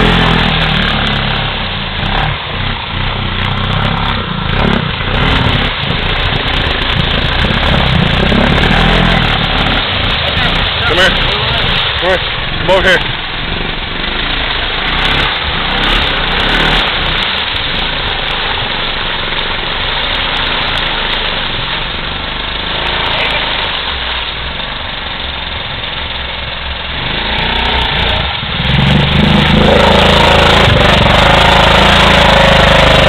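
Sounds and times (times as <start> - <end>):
quad engine wading through water: 0.0 - 33.0.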